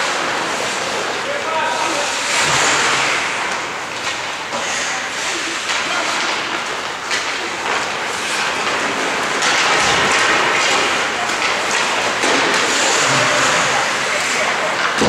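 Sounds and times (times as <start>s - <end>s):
skates hissing on ice: 0.0s - 14.9s.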